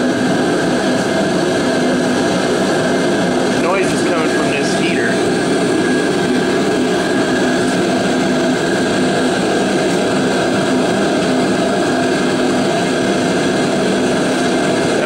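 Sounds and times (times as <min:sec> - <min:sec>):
heater running with hum: 0:00.0 - 0:15.0.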